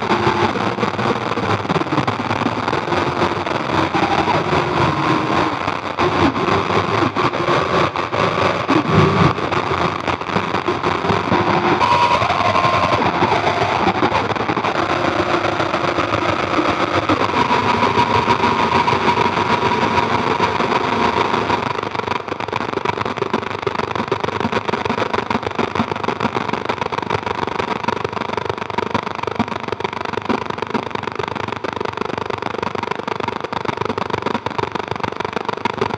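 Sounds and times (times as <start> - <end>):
grainy noise drone: 0.0 - 31.4.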